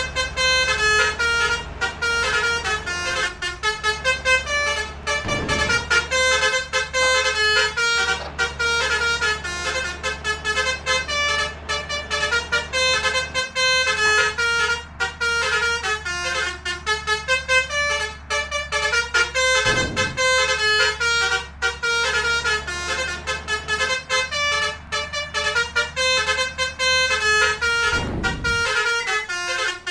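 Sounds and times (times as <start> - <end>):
low engine hum: 0.0 - 29.9
musical bus horn melody: 0.0 - 29.9.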